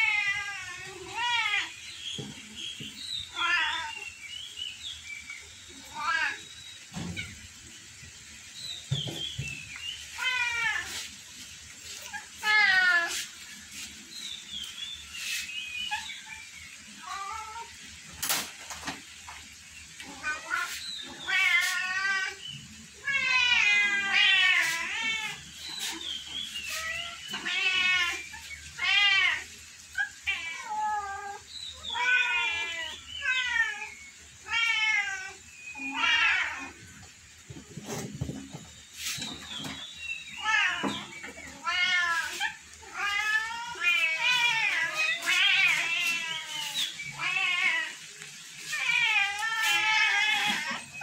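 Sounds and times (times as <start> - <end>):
cats and kittens meowing: 0.0 - 2.6, 3.2 - 4.2, 8.8 - 14.1, 15.5 - 19.0, 19.9 - 37.2, 37.8 - 51.0.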